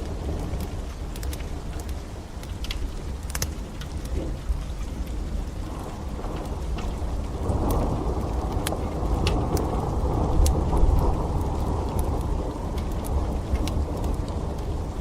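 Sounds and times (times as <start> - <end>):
steady rain: 0.0 - 15.0
wood fire crackling and popping: 0.0 - 15.0.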